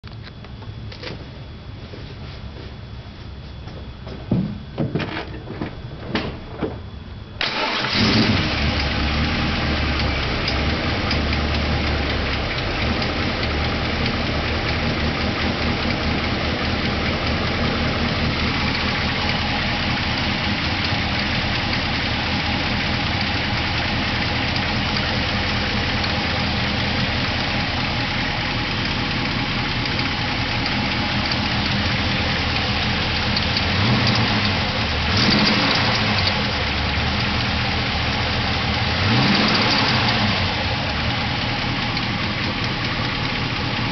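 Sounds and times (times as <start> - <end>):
car engine starting and running: 5.2 - 43.9.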